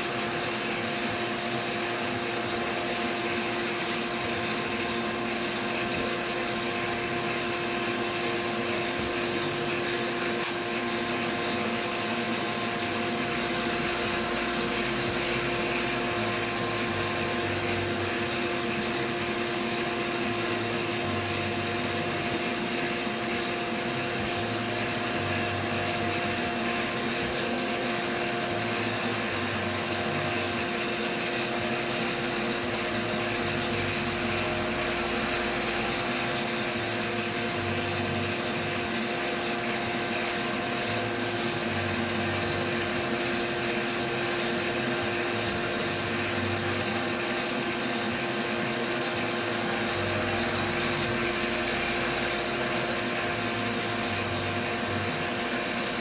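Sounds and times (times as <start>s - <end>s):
milling machine whine and hiss: 0.0s - 56.0s.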